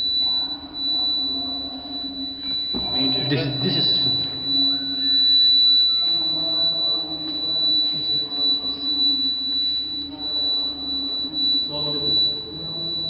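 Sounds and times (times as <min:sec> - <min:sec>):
alarm panel buzzer tone: 0:00.0 - 0:13.0
faint lower wavering tones: 0:00.0 - 0:13.0.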